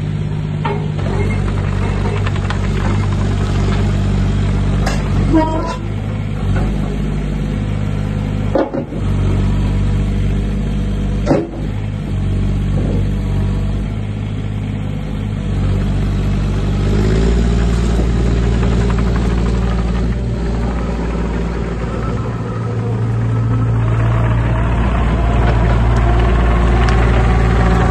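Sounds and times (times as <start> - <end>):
excavator diesel engine: 0.0 - 27.9.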